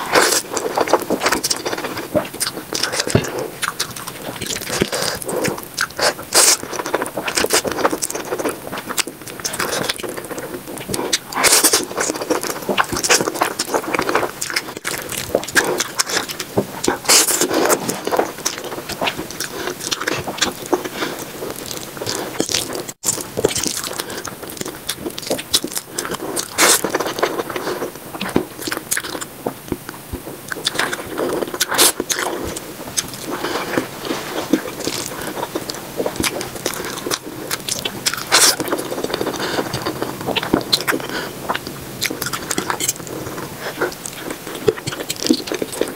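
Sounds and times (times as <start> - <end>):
noodles slurped and chewed: 0.0 - 45.9.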